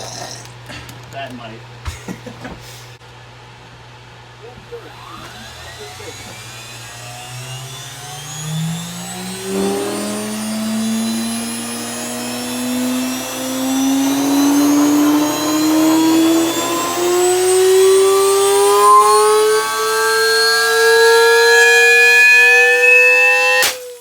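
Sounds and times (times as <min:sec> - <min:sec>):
electric motor whine: 0:04.6 - 0:24.0.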